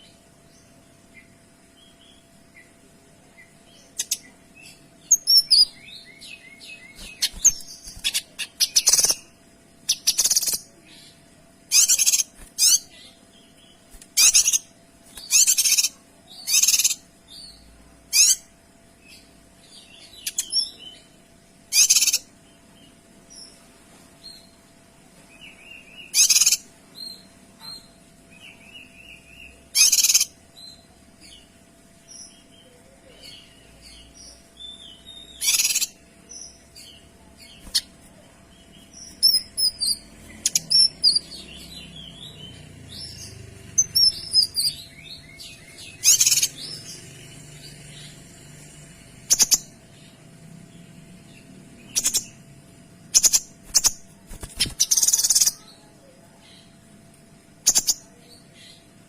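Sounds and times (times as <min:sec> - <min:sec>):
soft bird chirps: 0:00.0 - 0:18.5, 0:19.1 - 0:52.5, 0:53.1 - 0:56.8
songbird singing: 0:00.0 - 0:23.6, 0:24.3 - 0:59.0.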